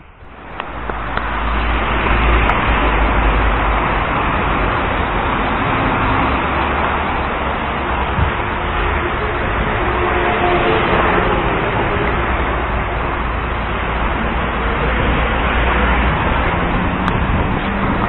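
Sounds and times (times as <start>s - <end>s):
cars going by: 0.0s - 18.0s.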